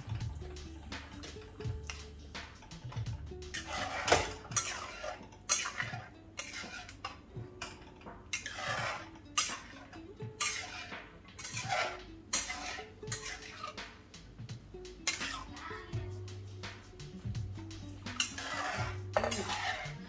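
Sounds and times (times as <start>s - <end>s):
masher knocking and scraping pan: 0.0s - 16.1s, 16.7s - 20.0s.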